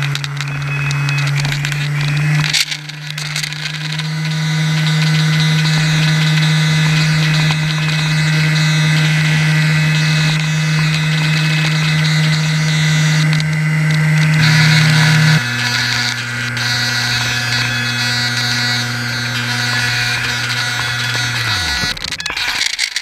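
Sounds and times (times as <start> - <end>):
model boat motor and propeller: 0.0 - 23.0.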